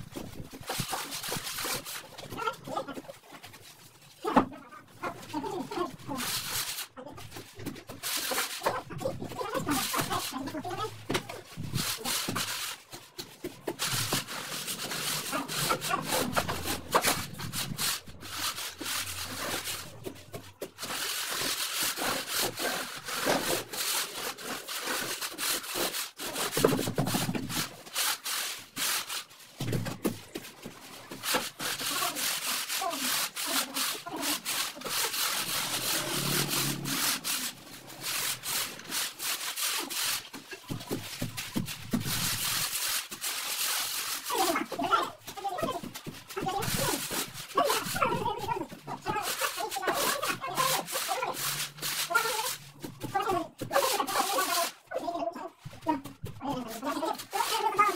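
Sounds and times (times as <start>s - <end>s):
trowel scraping on screed: 0.1s - 55.0s, 55.6s - 57.9s.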